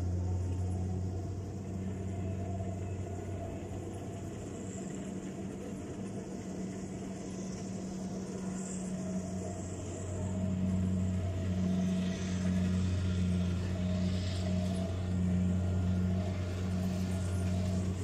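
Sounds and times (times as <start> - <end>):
combine harvester engine droning: 0.0 - 18.0.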